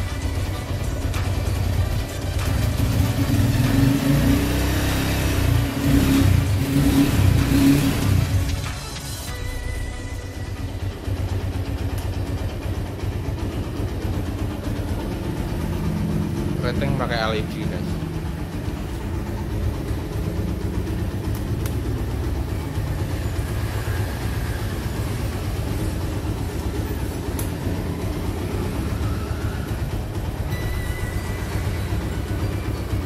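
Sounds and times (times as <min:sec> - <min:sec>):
motorcycle engine idling: 0:00.0 - 0:08.8, 0:09.7 - 0:33.0.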